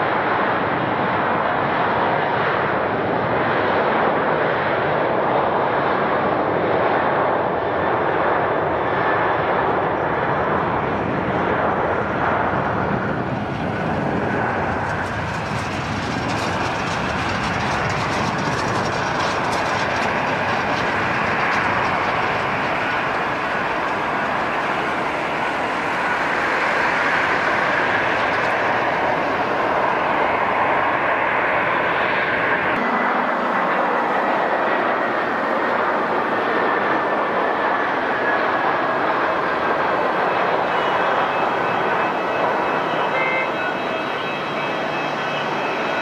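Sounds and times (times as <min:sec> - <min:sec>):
jet engine noise: 0:00.0 - 0:46.0.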